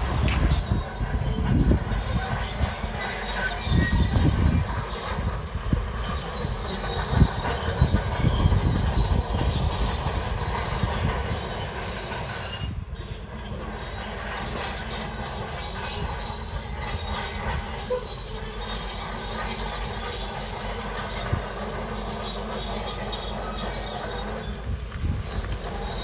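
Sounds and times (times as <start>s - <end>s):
bulldozer tracks clanking and squealing: 0.0s - 26.0s
diesel engine running: 0.0s - 26.0s.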